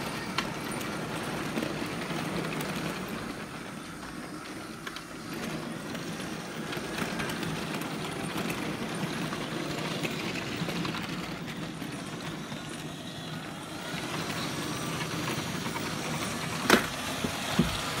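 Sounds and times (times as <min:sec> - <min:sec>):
model train wheels rumbling: 0:00.0 - 0:18.0.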